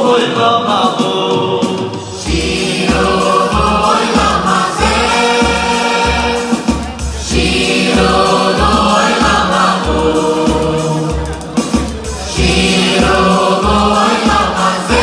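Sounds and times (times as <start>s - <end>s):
boys' choir singing over pa: 0.0s - 15.0s
low bass beat: 2.3s - 15.0s.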